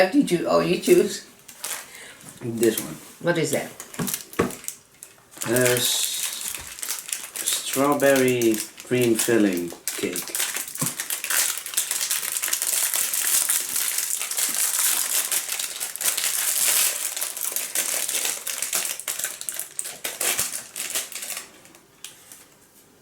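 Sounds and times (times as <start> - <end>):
snack wrapper crinkling: 0.9 - 2.0, 3.8 - 21.9.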